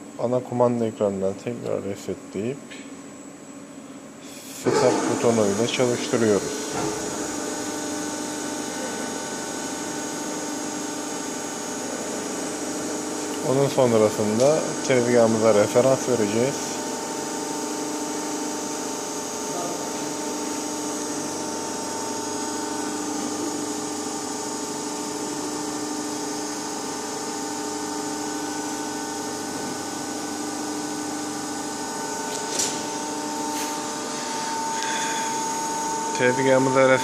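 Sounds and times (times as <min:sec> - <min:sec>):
hydraulic pump humming: 0:00.0 - 0:37.0.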